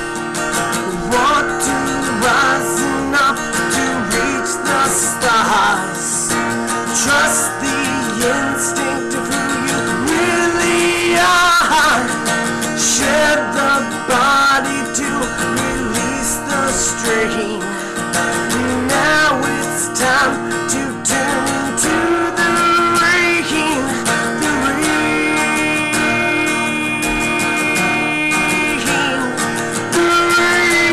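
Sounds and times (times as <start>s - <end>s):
acoustic guitar: 0.0s - 30.9s
man singing: 0.0s - 30.9s.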